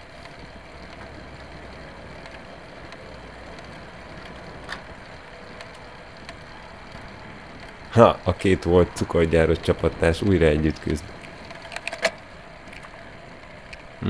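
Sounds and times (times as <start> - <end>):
bicycle tyres on road: 0.0 - 14.0
wind: 0.0 - 14.0.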